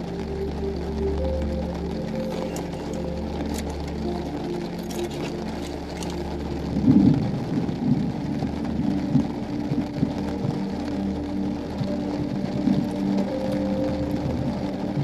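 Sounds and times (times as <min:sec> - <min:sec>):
low gusty rumble: 0:00.0 - 0:15.0
rain: 0:00.0 - 0:15.0.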